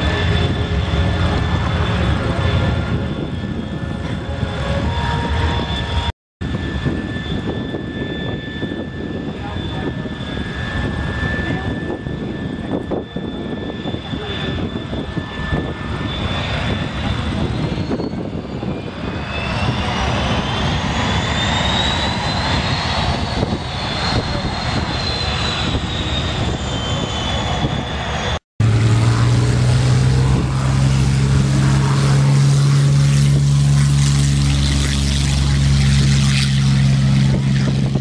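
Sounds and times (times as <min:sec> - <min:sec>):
propeller aircraft engines running: 0:00.0 - 0:38.0.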